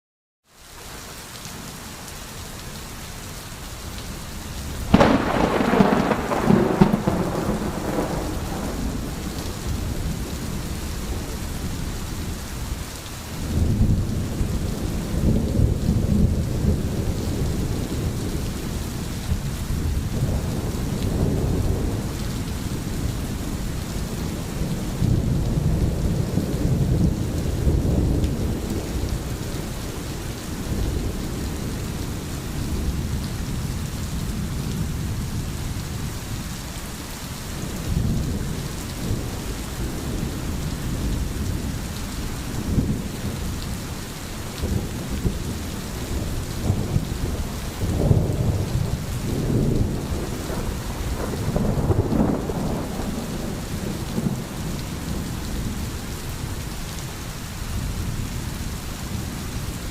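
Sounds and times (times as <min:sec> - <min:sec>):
steady rain: 0:00.4 - 0:59.9
thunder rumbling: 0:04.6 - 0:12.8, 0:13.4 - 0:36.0, 0:37.6 - 0:56.5.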